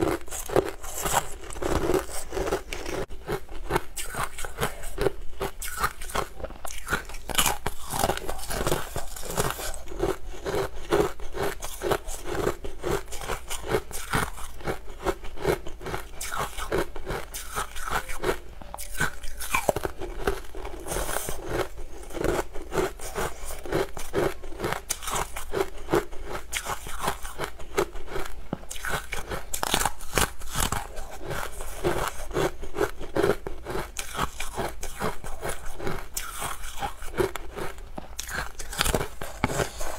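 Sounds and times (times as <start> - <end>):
candy crunching: 0.0 - 39.9.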